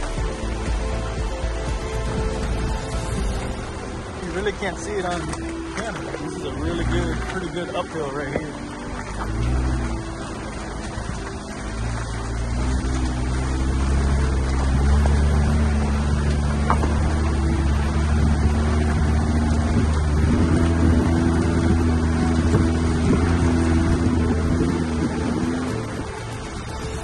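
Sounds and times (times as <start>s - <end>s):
engine pulling under load: 0.0s - 27.0s.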